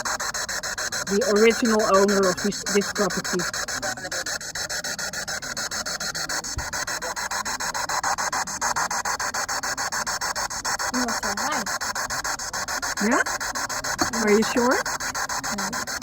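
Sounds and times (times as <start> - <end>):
choppy pulsing static hiss: 0.0 - 16.0
warbling scraps of radio sound: 0.0 - 16.0.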